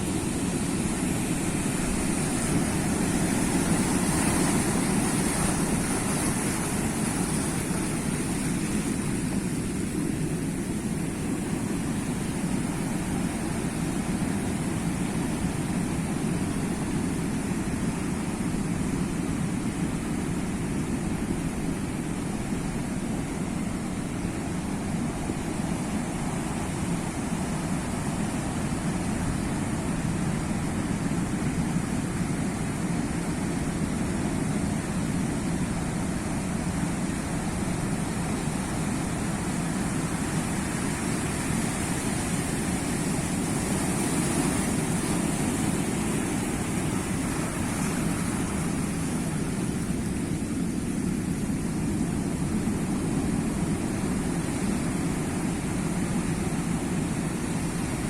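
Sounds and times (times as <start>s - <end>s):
sea waves washing on shore: 0.0s - 58.0s.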